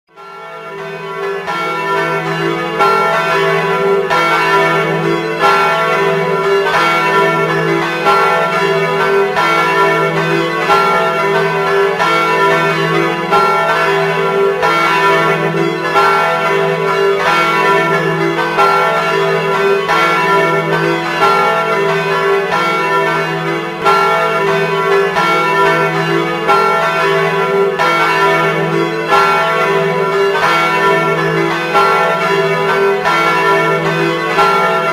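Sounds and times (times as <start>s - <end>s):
church bells ringing: 0.1s - 34.9s.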